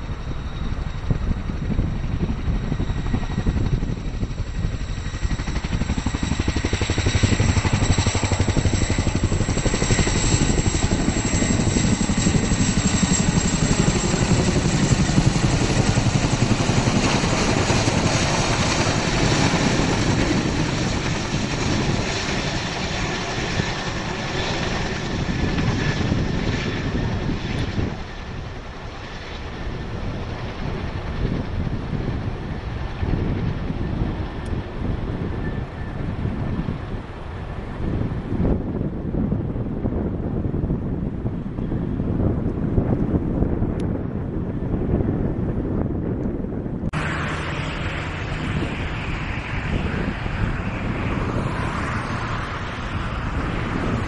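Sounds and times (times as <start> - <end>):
helicopter rotors chopping: 0.0 - 54.0.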